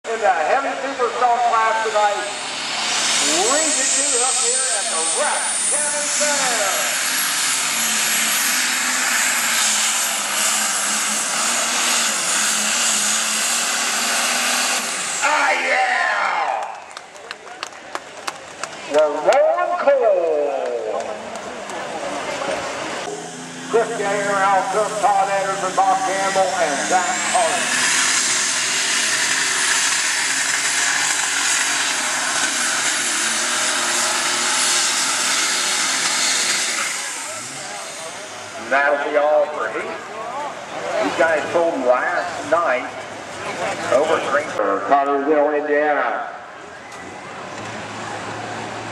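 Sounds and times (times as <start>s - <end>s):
tractor engine roaring: 0.0s - 48.9s.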